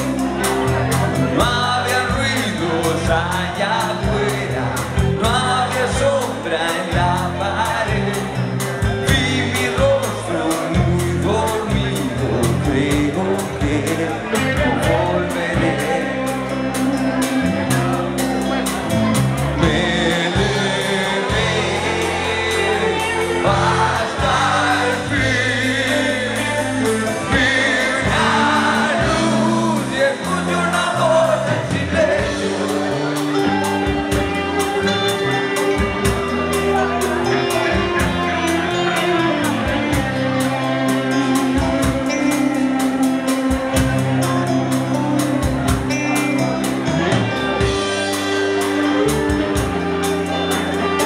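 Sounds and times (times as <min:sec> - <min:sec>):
person singing: 0:00.0 - 0:18.0, 0:19.4 - 0:44.8
live rock band playing: 0:00.0 - 0:51.0.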